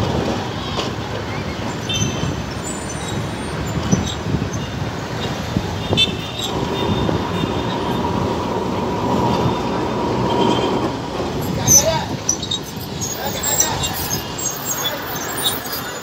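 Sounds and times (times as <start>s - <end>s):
traffic noise: 0.0s - 16.0s
tram rumbling: 0.0s - 16.0s.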